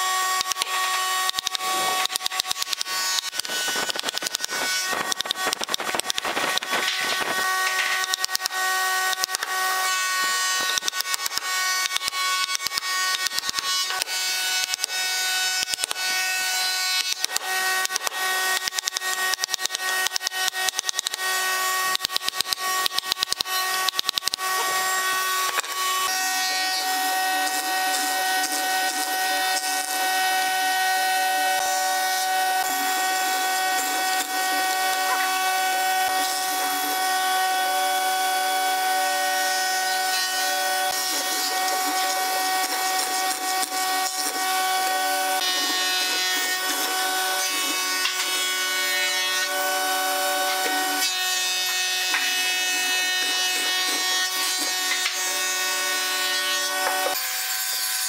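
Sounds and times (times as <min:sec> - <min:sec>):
mortiser motor whine: 0:00.0 - 0:58.0
rasping wood cutting: 0:00.0 - 0:58.0.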